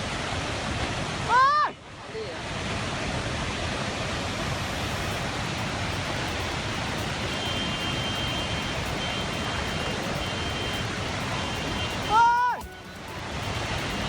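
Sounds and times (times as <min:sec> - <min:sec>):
rushing floodwater roar: 0:00.0 - 0:14.0.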